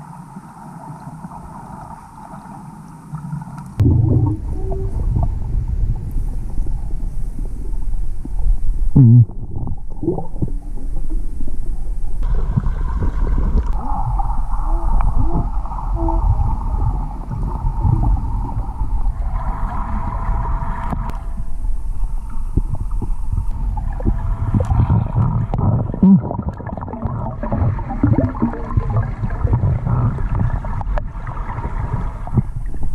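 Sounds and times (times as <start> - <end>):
muffled underwater rumble: 0.0 - 32.9
steady mid-pitched whine: 3.8 - 32.9.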